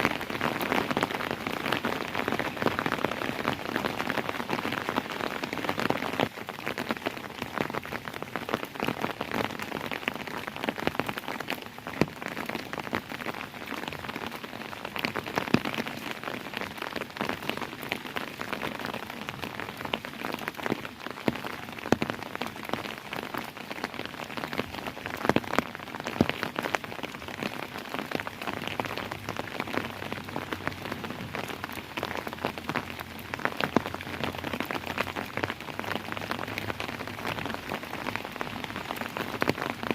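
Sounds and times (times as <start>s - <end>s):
raindrops ticking on hard surface: 0.0s - 39.9s.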